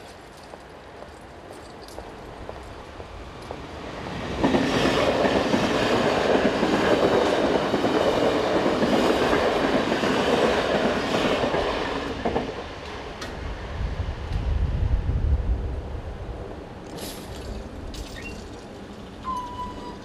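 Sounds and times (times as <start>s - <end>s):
train passing at speed: 0.0s - 17.9s.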